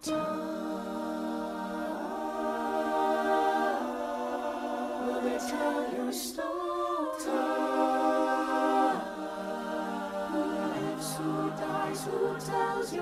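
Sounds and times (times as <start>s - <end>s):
ensemble singing a cappella: 0.0s - 13.0s.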